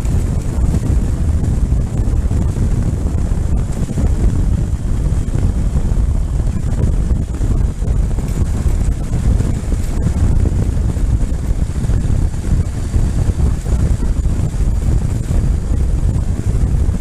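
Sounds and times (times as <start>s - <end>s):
road and engine noise: 0.0s - 17.0s
wind buffeting microphone: 0.0s - 17.0s.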